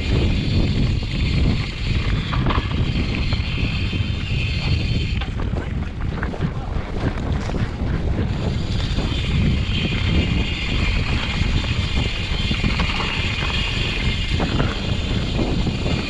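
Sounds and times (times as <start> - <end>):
bike rumbling and rattling on dirt: 0.0 - 16.0
wind buffeting microphone: 0.0 - 16.0.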